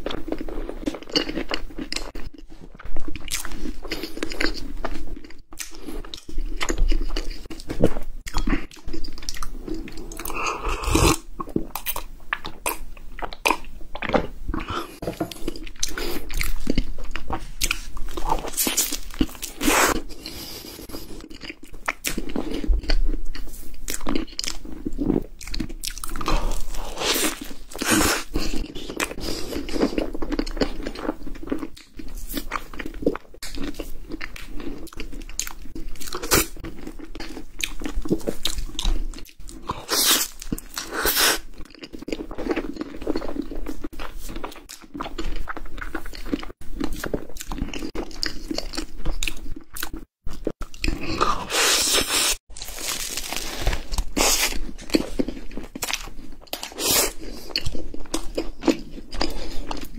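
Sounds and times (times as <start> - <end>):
chewing and biting pastry: 0.0 - 59.9.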